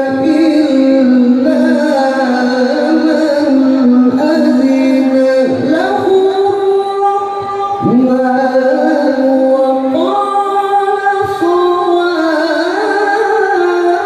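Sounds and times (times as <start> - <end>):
man chanting melodically into microphone: 0.0 - 14.0.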